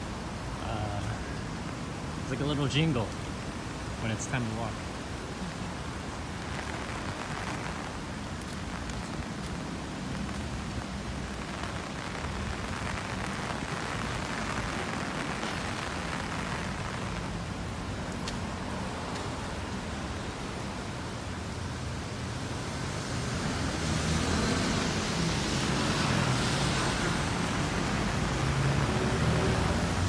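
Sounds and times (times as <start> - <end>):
street noise hiss: 0.0 - 30.0
traffic passing: 0.0 - 30.0.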